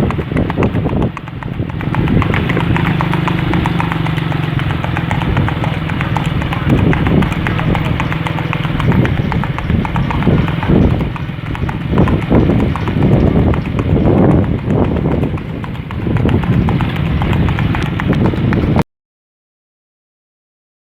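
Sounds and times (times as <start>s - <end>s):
horse hooves clip-clopping: 0.0s - 18.8s.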